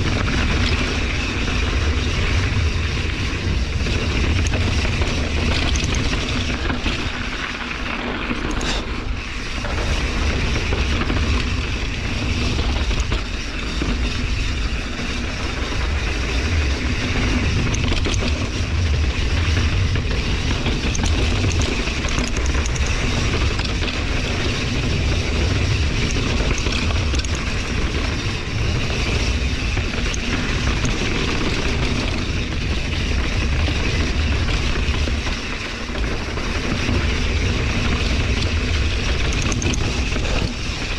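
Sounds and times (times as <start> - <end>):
bike tyres on dirt and rocks: 0.0 - 40.9
wind rumble on microphone: 0.0 - 40.9.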